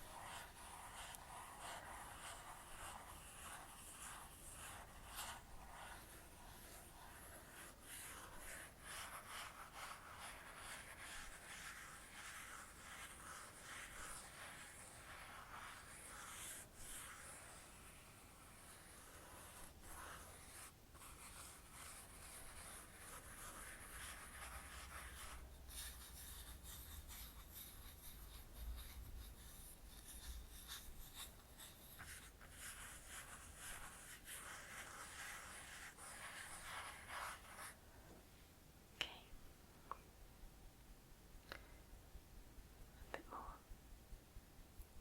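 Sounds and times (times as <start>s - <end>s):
makeup brush scratching: 0.0s - 37.8s.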